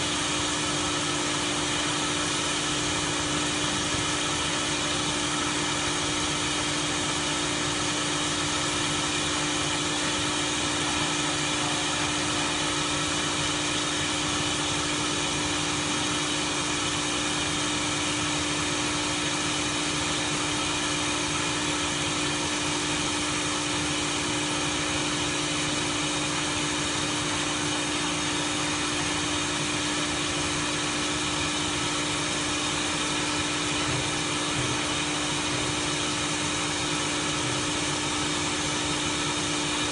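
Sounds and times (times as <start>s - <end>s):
welding machine humming: 0.0s - 39.9s.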